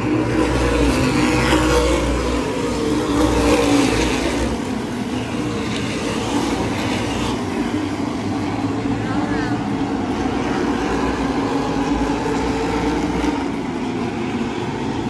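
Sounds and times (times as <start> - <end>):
race car engines rumbling: 0.0 - 15.0.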